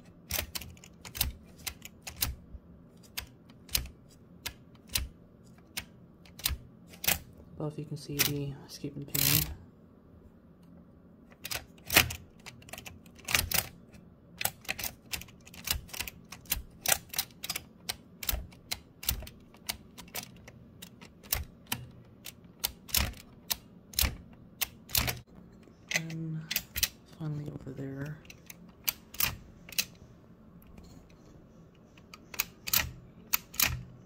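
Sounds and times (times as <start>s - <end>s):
typewriter mechanism clicking: 0.0s - 2.4s, 3.0s - 7.4s, 8.1s - 9.6s, 11.3s - 27.0s, 27.9s - 34.0s.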